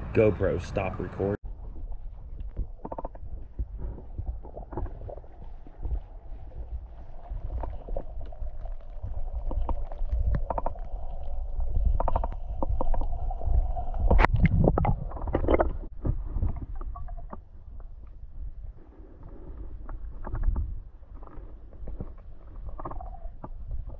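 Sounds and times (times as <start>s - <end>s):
muffled underwater stream rumble: 0.0s - 23.9s
underwater clicks and ticks: 1.5s - 23.9s.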